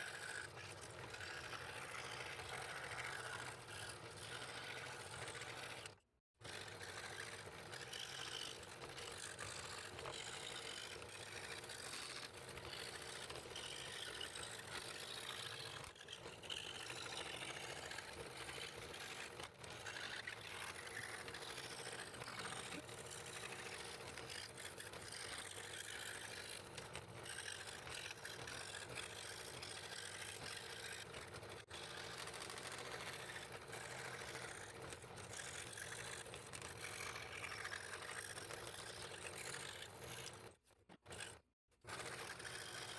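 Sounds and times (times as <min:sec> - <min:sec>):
scroll saw cutting wood: 0:00.0 - 0:42.9.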